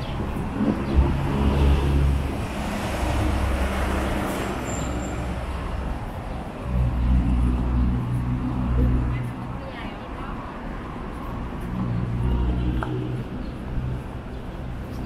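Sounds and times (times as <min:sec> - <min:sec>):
vehicles passing on road: 0:00.0 - 0:15.0.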